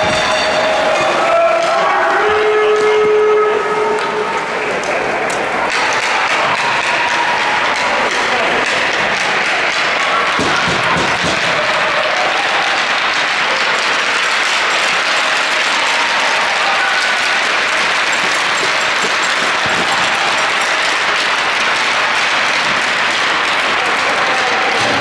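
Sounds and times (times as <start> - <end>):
crowd applauding: 0.0 - 25.0.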